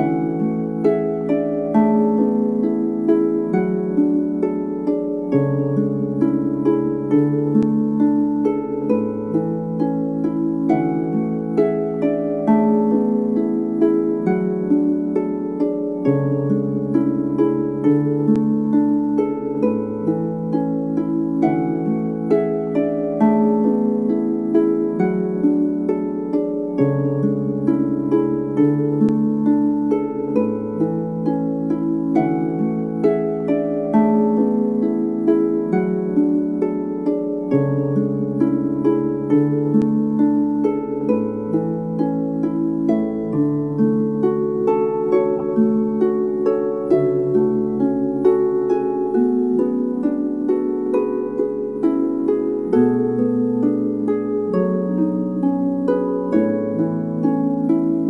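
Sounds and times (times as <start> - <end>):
plucked lyre melody: 0.0 - 58.0.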